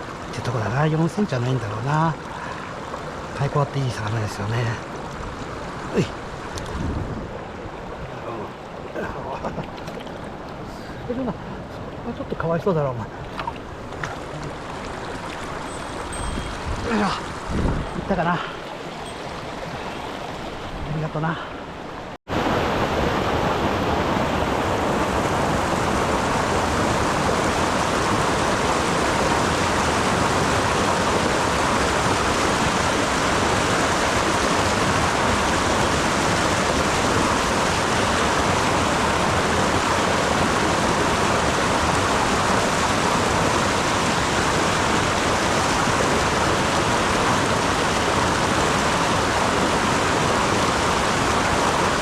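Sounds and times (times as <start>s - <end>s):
mountain stream rushing: 0.0s - 52.0s.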